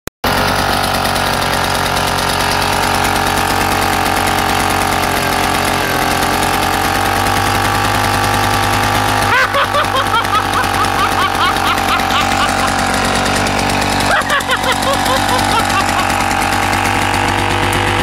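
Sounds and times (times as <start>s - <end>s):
generator engine running: 0.2s - 18.0s.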